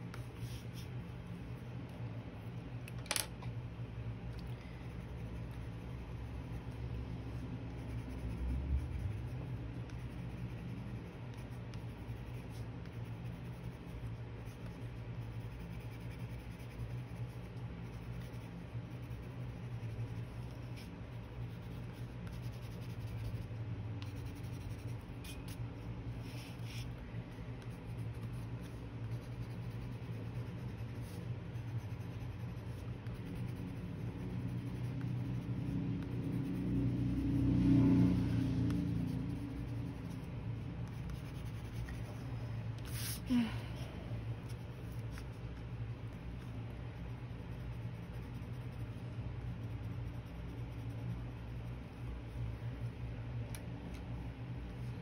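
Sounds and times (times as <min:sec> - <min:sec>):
low hum: 0:00.0 - 0:55.0
pencil scratching on paper: 0:00.1 - 0:01.7, 0:04.9 - 0:42.2, 0:42.8 - 0:43.3, 0:44.4 - 0:52.6.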